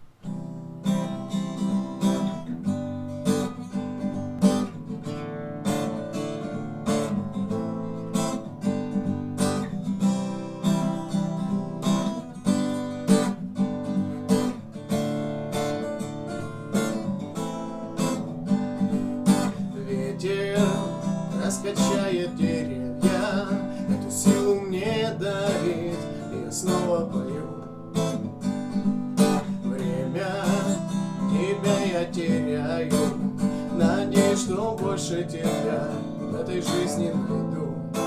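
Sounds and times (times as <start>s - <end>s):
acoustic guitar strumming: 0.0s - 38.0s.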